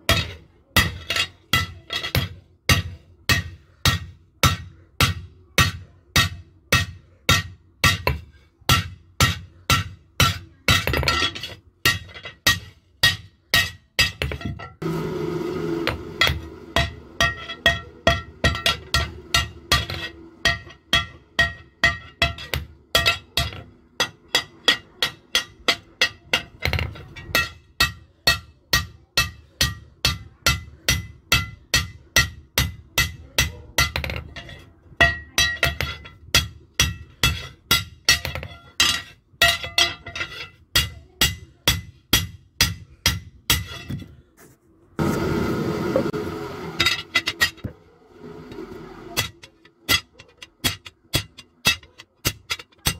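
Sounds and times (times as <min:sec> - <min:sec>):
hammer striking steel on anvil: 0:00.1 - 0:14.9, 0:15.8 - 0:44.0, 0:46.7 - 0:47.8, 0:49.1 - 0:52.9.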